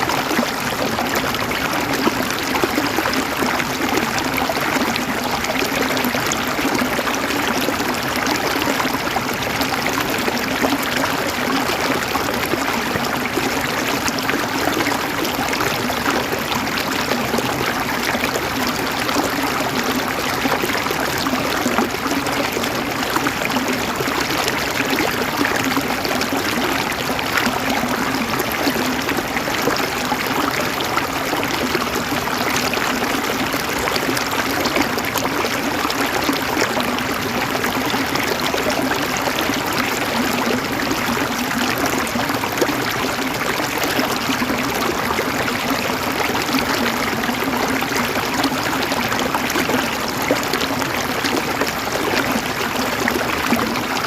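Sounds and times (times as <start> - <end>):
river water gurgling over stones: 0.0 - 54.0.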